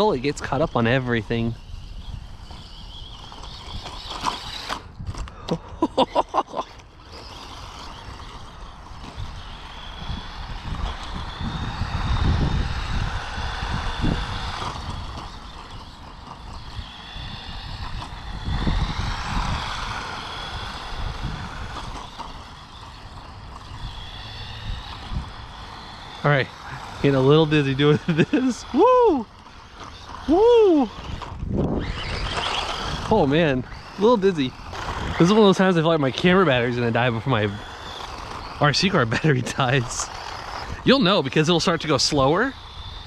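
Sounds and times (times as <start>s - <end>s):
toy truck motor whining: 0.0s - 43.0s.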